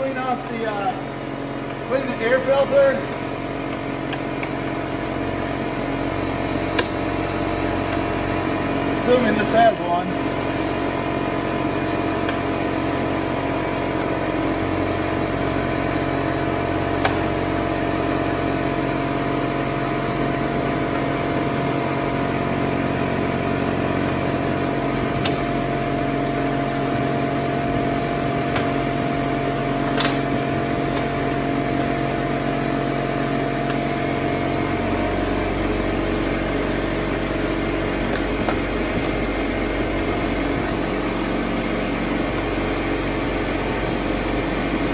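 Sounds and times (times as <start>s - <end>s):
motor humming: 0.0s - 44.9s.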